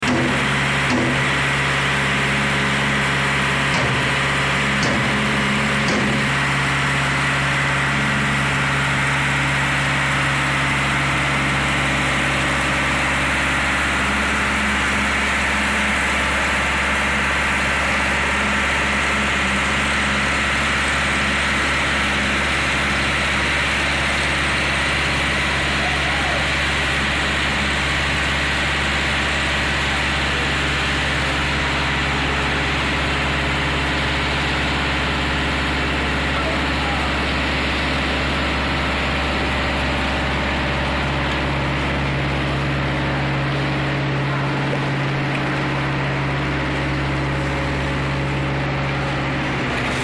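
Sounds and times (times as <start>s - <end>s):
concrete mixer engine running: 0.0s - 50.0s.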